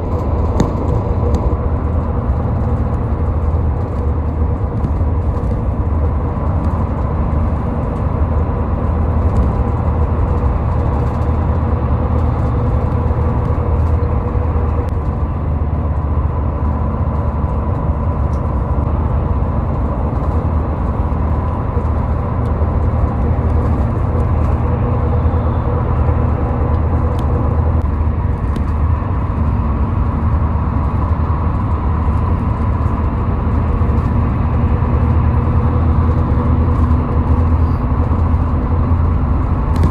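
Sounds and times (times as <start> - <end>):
car driving at highway speed: 0.0 - 39.9.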